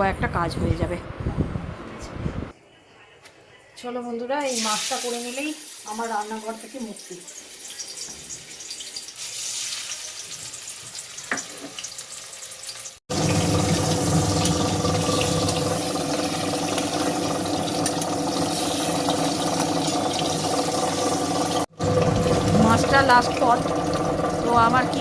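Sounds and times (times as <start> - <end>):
faint kitchen crackle: 4.5 - 25.0
water running from a tap: 4.5 - 25.0.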